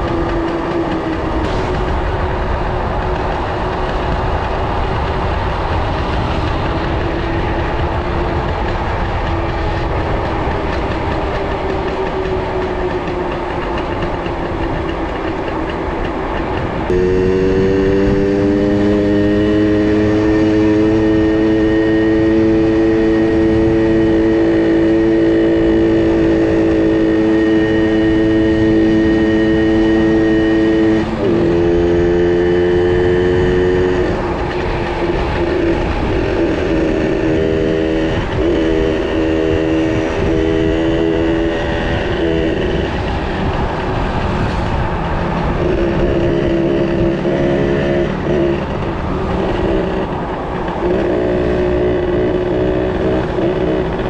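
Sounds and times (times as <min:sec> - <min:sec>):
two-stroke minibike engine revving: 0:00.0 - 0:54.0.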